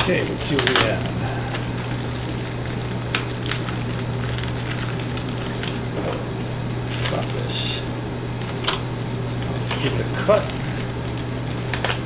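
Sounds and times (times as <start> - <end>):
plastic bag crinkling: 0.0 - 12.0
steady low hum: 0.0 - 12.0.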